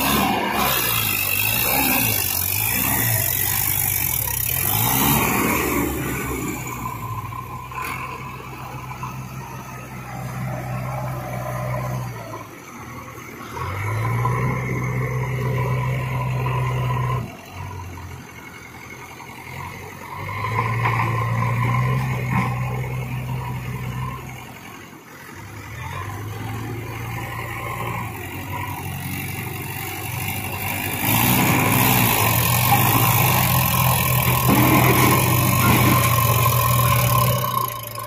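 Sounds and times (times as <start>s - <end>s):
diesel engines under load: 0.0s - 38.0s.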